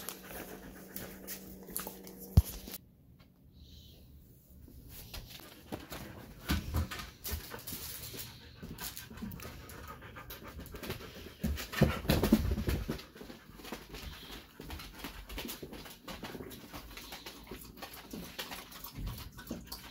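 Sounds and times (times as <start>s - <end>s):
dog panting: 0.0s - 2.2s, 5.4s - 19.9s.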